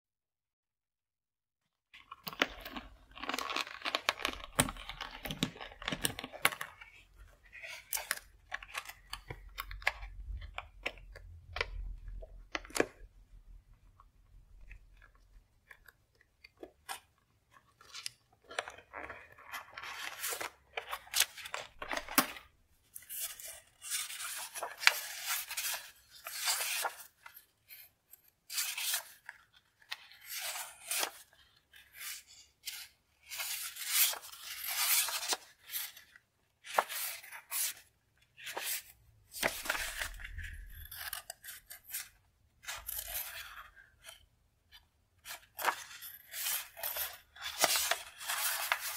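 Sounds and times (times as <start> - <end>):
paper rustling and crinkling: 2.0 - 13.0, 14.4 - 27.8, 28.5 - 44.2, 45.2 - 48.9.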